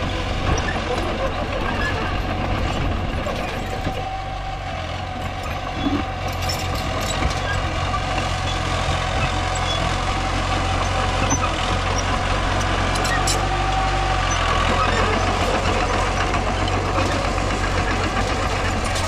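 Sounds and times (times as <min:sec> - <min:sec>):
bulldozer engine droning: 0:00.0 - 0:19.0.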